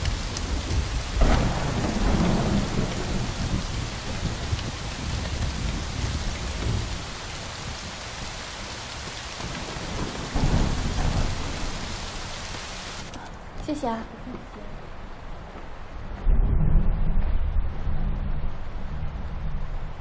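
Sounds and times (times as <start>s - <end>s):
thunder rumbling: 0.0s - 13.5s, 14.8s - 20.0s
heavy rain on pavement: 0.0s - 16.2s.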